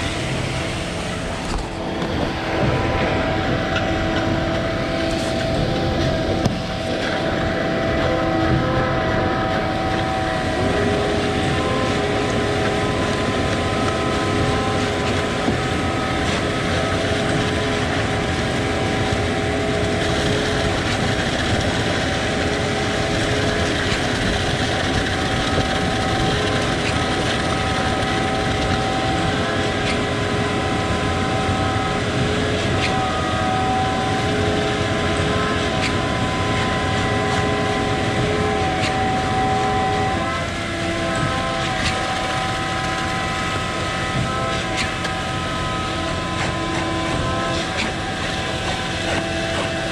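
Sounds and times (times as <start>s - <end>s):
diesel engine drone: 0.0s - 49.9s
high hydraulic whine: 0.0s - 49.9s.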